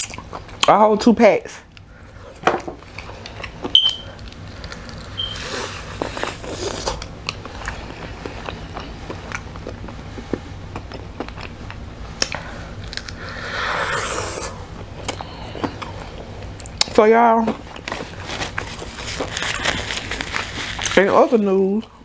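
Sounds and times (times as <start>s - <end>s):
crunchy chewing: 1.7s - 17.0s, 17.6s - 21.0s.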